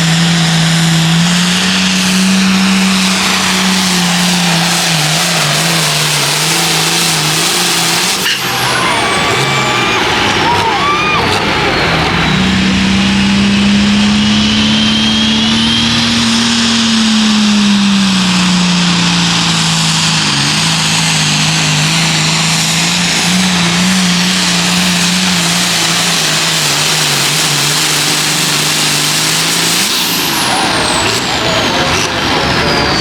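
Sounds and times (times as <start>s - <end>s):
tractor engine running hard: 0.0s - 33.0s.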